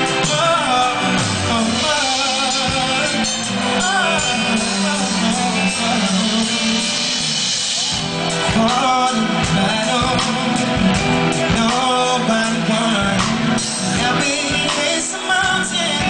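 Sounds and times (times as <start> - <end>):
man singing into a microphone: 0.0 - 7.6, 8.3 - 16.0
live band playing: 0.0 - 16.0.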